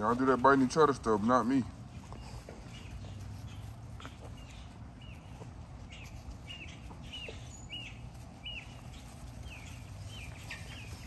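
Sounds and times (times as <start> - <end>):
low steady background hum: 0.0 - 11.0
bird chirping: 0.3 - 11.0.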